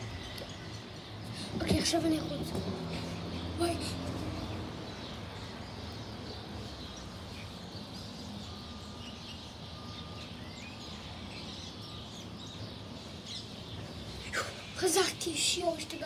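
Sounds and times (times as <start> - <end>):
steady outdoor background noise: 0.0 - 16.0.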